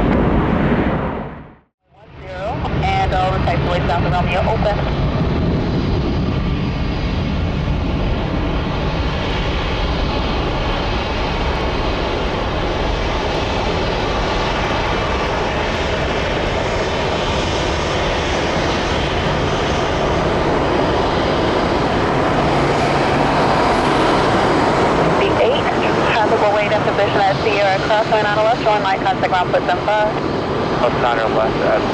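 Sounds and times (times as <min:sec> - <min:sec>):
jet engines rushing and whining: 0:00.0 - 0:31.9.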